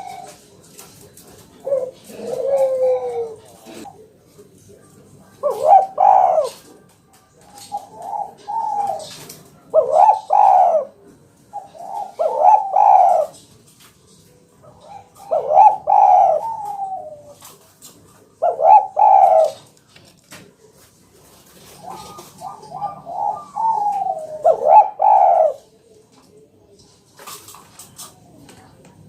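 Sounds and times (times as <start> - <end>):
dove cooing: 0.0 - 19.8, 21.2 - 28.1.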